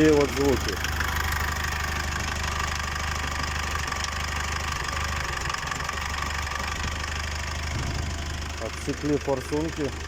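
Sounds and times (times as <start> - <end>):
diesel engine idling with knock: 0.0 - 10.0.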